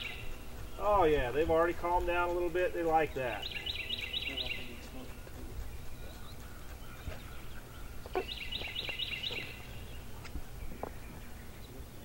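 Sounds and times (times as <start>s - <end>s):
bird chirping: 0.0s - 12.0s
low outdoor rumble: 0.0s - 12.0s.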